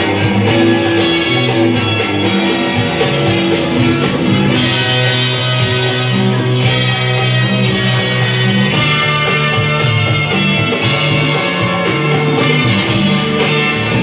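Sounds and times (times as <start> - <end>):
loud music over sound system: 0.0 - 14.0.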